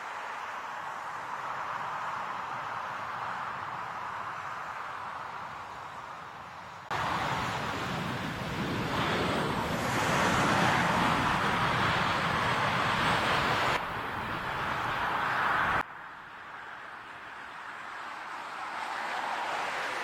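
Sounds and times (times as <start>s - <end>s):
wind: 0.0s - 20.0s
jet airliner passing overhead: 0.5s - 15.8s, 17.0s - 20.0s.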